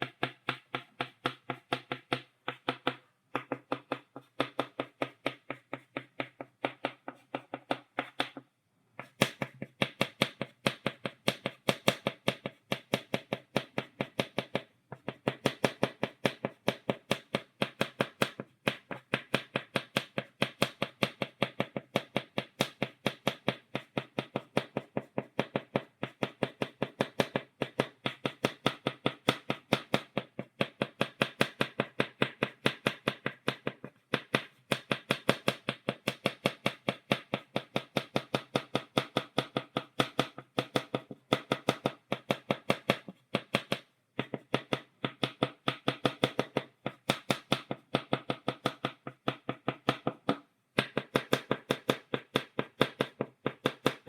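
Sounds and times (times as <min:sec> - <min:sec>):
chalk tapping on a blackboard: 0:00.0 - 0:54.0.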